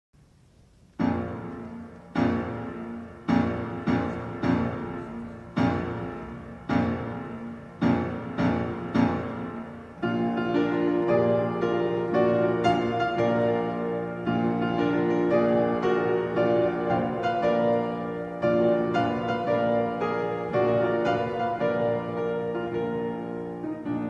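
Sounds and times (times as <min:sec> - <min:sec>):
slow piano chords: 0:00.3 - 0:24.0.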